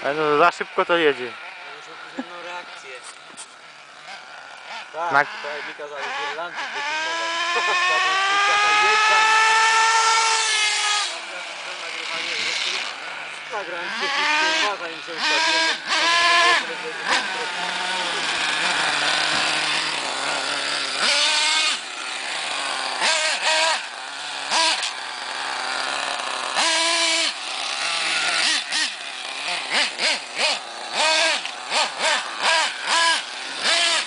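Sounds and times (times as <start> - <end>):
small nitro engine revving: 0.0 - 34.0.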